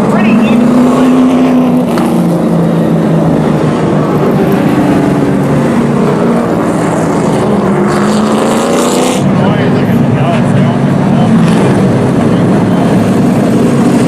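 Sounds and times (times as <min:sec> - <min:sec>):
race truck engines at speed: 0:00.0 - 0:14.0.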